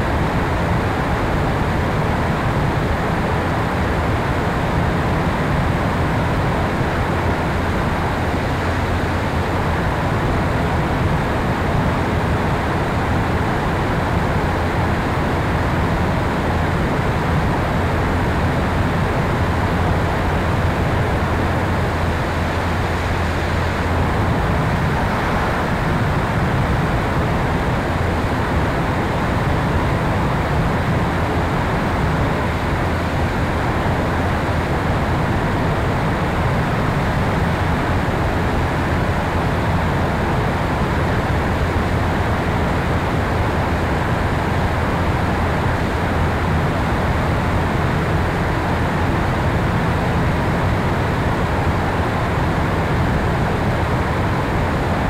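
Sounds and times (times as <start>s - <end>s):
low propeller drone: 0.0s - 55.0s.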